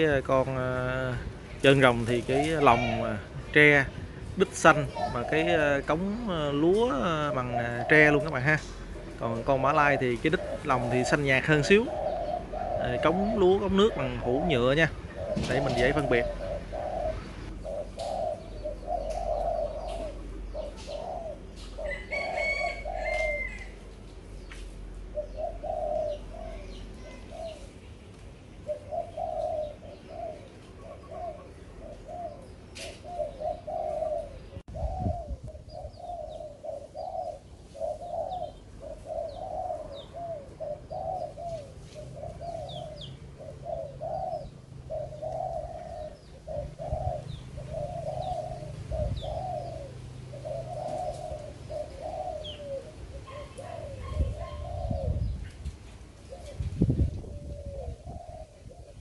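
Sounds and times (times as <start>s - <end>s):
doves cooing: 0.0s - 59.0s
small birds chirping: 0.0s - 59.0s.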